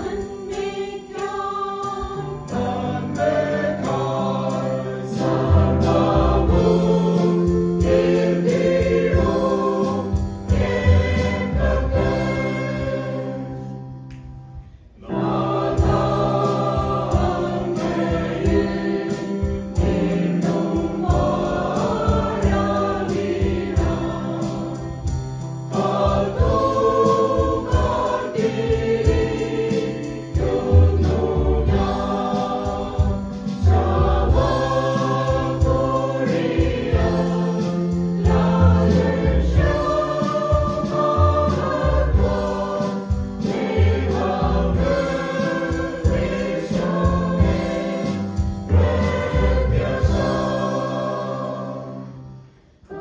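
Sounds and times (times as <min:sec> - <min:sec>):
choir singing a hymn: 0:00.0 - 0:14.1, 0:14.7 - 0:53.0.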